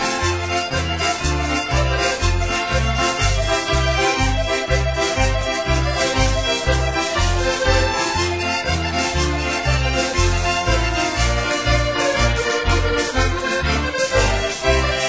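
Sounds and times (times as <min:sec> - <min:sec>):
lively music with bass line: 0:00.0 - 0:15.0.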